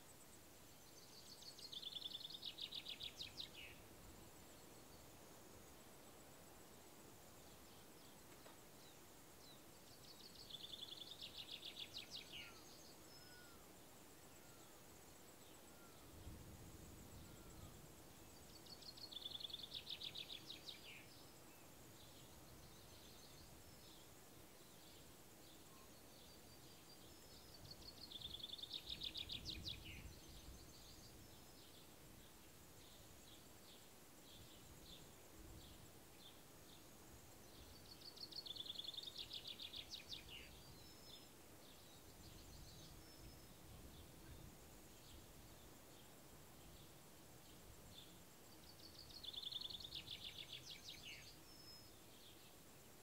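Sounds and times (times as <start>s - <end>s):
faint insect chirring: 0.0s - 53.0s.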